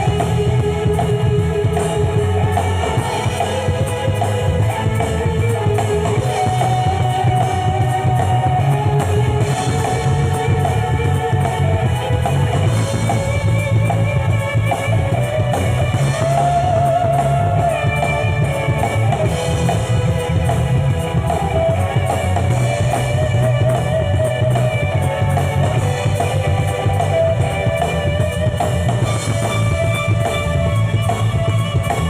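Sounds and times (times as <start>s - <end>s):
drum kit: 0.0s - 32.0s
guitar: 0.0s - 32.0s
live band playing: 0.0s - 32.0s.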